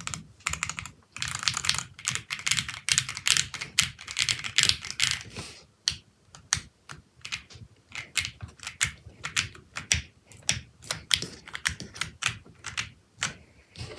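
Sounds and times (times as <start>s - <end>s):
mechanical keyboard typing: 0.0s - 5.3s, 5.9s - 13.4s.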